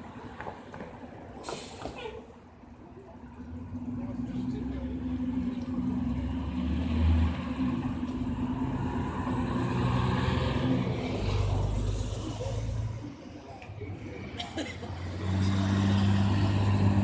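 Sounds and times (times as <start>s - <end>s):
car engine and tyres rumbling: 0.0s - 17.0s
street traffic noise: 0.0s - 17.0s
bus engine running: 3.2s - 17.0s.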